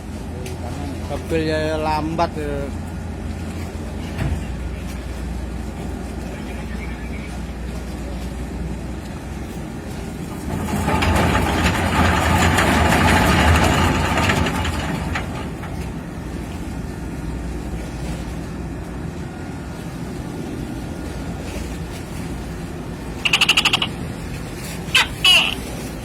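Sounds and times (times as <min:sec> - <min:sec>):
engine running: 0:02.4 - 0:26.0.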